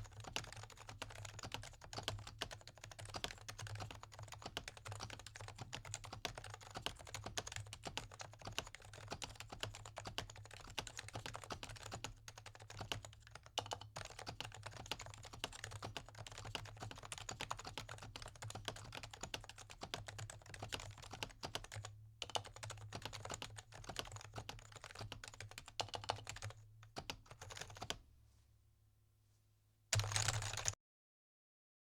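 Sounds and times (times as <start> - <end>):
fast keyboard typing: 0.0 - 28.0, 30.0 - 30.8.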